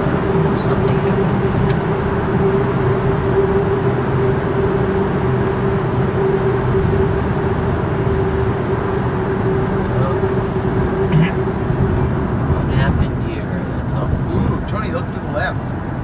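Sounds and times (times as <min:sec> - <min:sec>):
vehicle road and engine rumble: 0:00.0 - 0:16.0.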